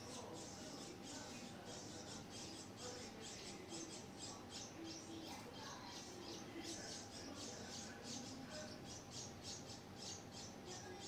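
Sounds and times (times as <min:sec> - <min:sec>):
nestlings begging calls: 0:00.0 - 0:11.0.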